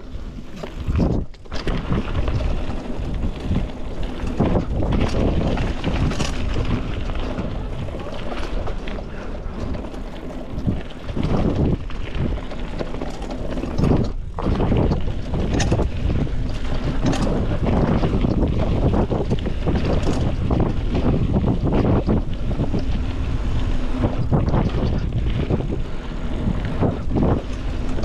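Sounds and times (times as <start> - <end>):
bike tyres rumbling on dirt: 0.0 - 28.0
wind buffeting microphone: 0.0 - 28.0.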